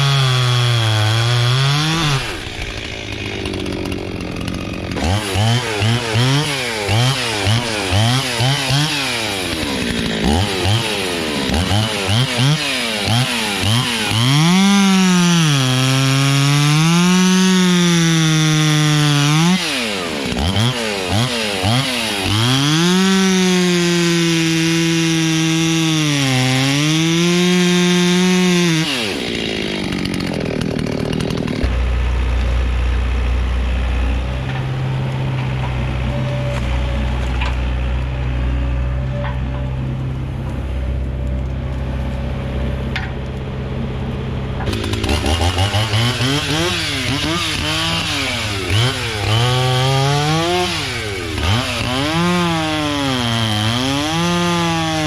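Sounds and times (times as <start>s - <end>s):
chainsaw revving and cutting: 0.0s - 39.6s, 44.5s - 55.0s.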